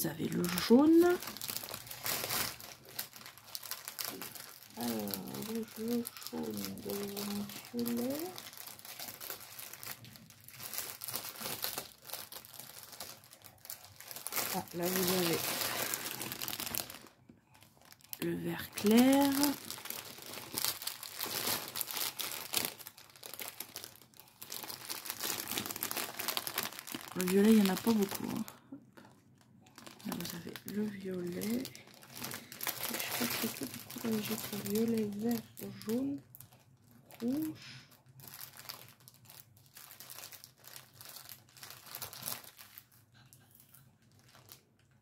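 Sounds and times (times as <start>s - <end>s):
plastic bags crinkling: 0.0s - 43.2s, 44.0s - 45.0s.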